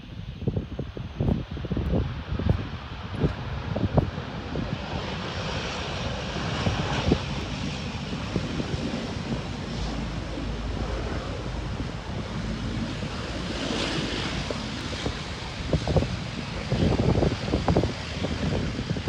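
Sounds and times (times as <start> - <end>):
wind buffeting microphone: 0.0 - 19.0
distant turboprop engines: 0.1 - 19.0.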